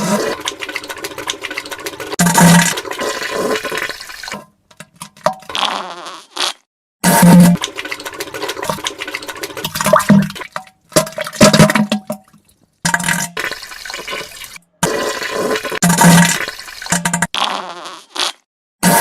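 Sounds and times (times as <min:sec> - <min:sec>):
wet splashing into toilet water: 0:00.0 - 0:05.6, 0:07.5 - 0:17.4.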